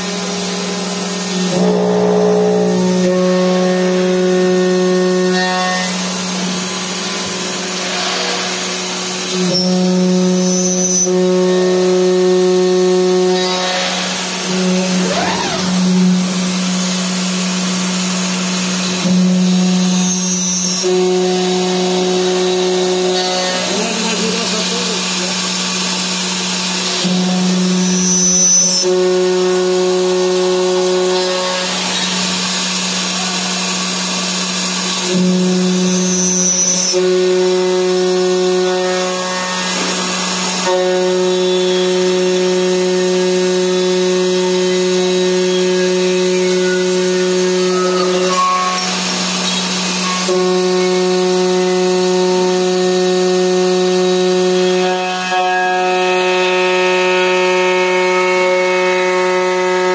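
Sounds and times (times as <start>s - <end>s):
milling spindle high whine: 0.0s - 59.9s.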